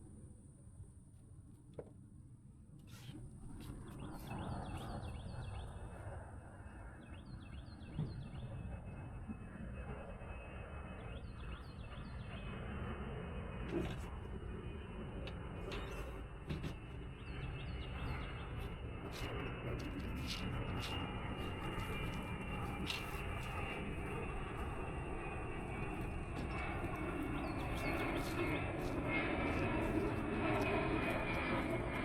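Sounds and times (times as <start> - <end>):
low aircraft rumble: 0.0 - 32.0.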